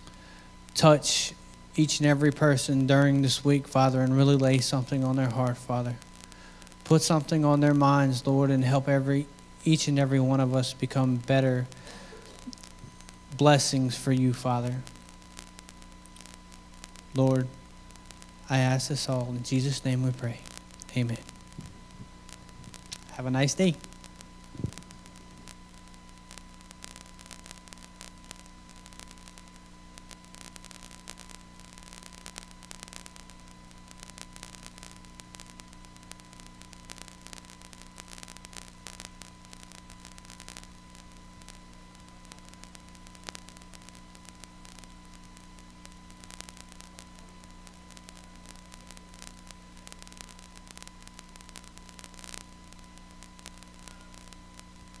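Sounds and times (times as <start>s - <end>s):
crackling static hiss: 0.0s - 55.0s
faint electrical hum: 0.0s - 55.0s.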